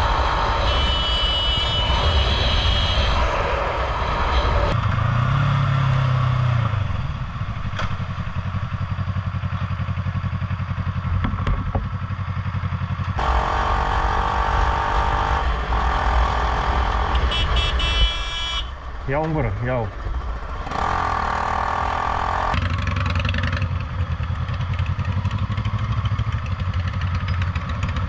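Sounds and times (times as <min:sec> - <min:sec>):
motorcycle engine: 0:00.0 - 0:19.0, 0:19.9 - 0:28.0.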